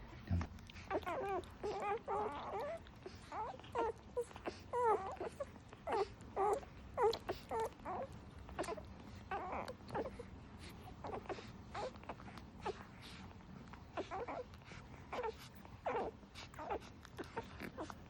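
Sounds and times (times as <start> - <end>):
puppy crying and whining: 0.7 - 18.0.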